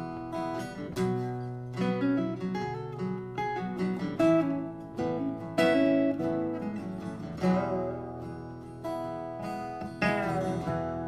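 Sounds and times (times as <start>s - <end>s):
acoustic guitars playing country: 0.0s - 11.0s.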